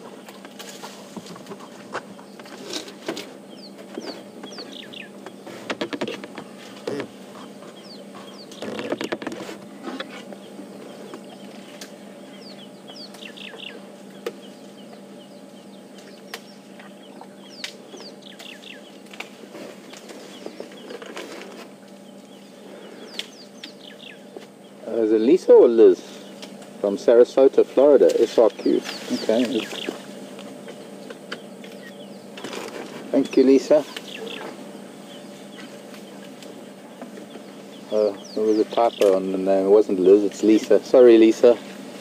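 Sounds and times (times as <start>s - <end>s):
branches cracking and rustling: 0.0s - 12.1s, 13.0s - 14.7s, 15.9s - 24.6s, 26.0s - 42.0s
steady low hum: 0.0s - 42.0s.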